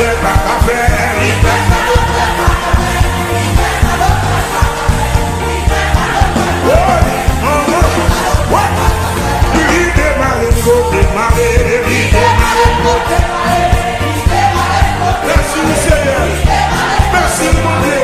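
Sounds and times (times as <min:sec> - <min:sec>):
gospel singing over a band: 0:00.0 - 0:18.0
steady bass beat: 0:00.0 - 0:18.0.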